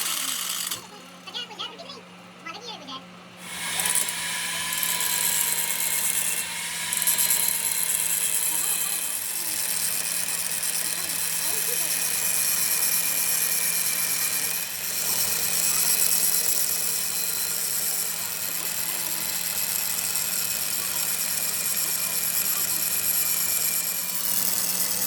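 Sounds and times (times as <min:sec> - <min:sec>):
power tool running: 0:00.0 - 0:01.5, 0:03.4 - 0:25.0.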